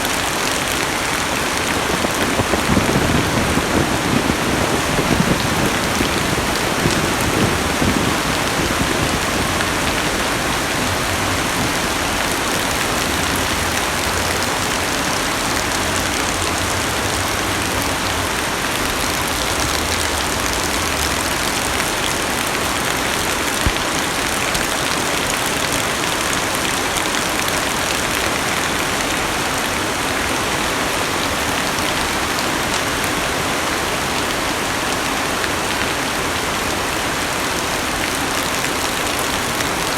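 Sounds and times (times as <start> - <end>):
heavy rain on car roof: 0.0 - 39.9.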